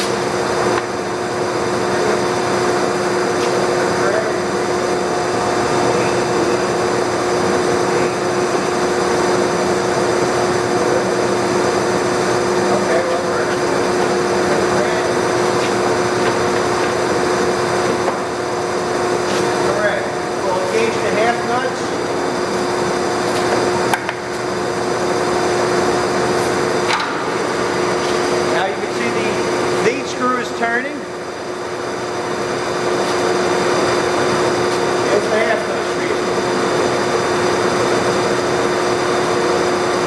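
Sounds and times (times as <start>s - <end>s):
lathe humming with whine: 0.0s - 40.0s.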